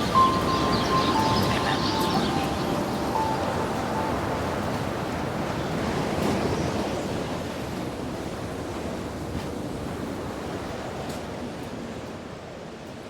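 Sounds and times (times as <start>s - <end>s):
surf washing: 0.0s - 11.2s.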